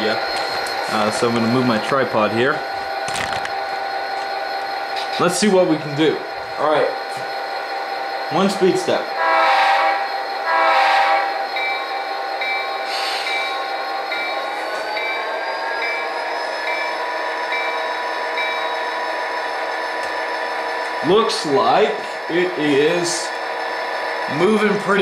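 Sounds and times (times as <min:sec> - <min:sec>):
model locomotive diesel engine sound: 0:00.0 - 0:25.0.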